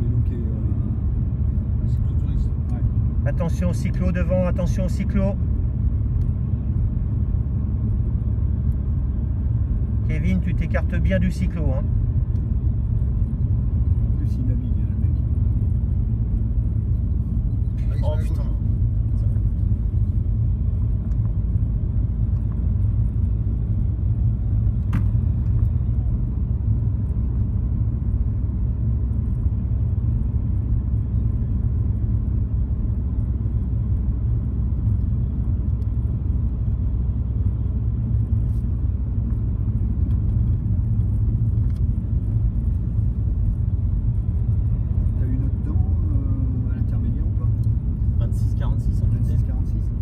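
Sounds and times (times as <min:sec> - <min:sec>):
car engine and tyre rumble: 0:00.0 - 0:50.0.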